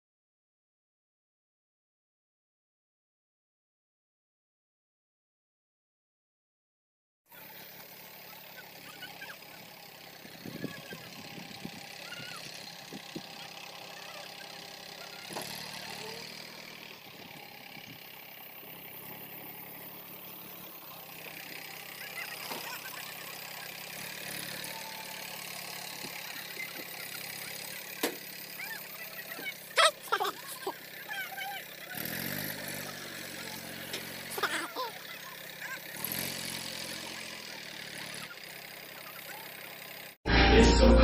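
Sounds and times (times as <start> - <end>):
tractor diesel engine running: 7.3 - 41.0.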